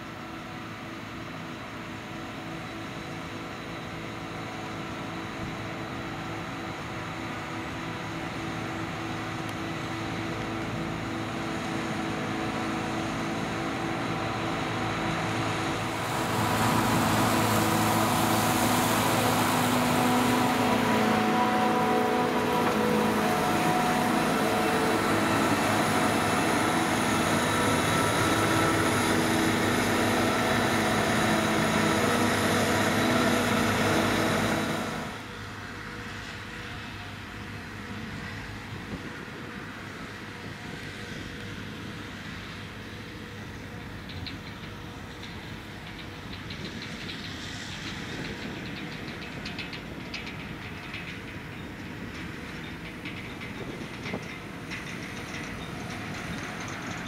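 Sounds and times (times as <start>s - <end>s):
tractor running: 0.0s - 57.0s.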